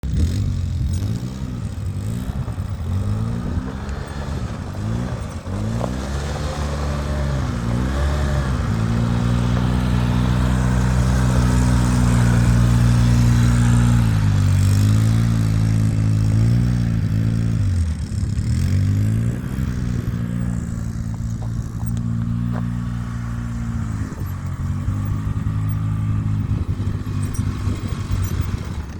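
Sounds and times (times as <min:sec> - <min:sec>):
atv engine revving: 0:00.0 - 0:28.9.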